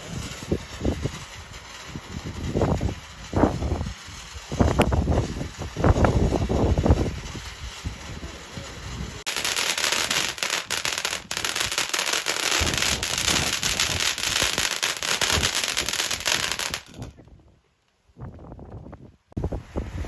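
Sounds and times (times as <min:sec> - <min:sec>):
firework crackling: 0:00.0 - 0:17.2, 0:19.4 - 0:20.0
low gusty rumbling: 0:00.2 - 0:17.5, 0:18.2 - 0:20.0.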